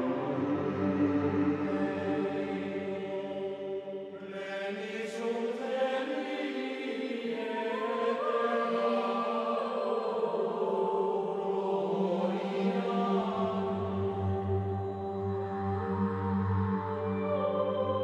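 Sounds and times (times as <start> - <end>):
choral chanting: 0.0 - 18.0.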